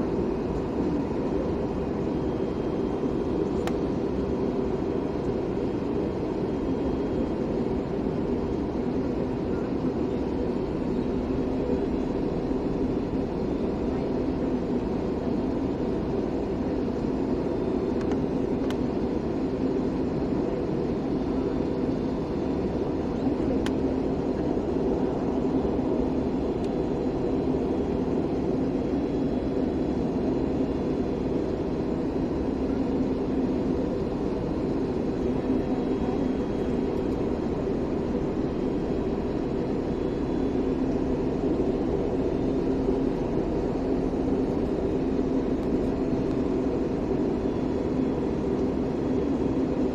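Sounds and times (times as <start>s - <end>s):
airliner cabin drone: 0.0s - 49.9s.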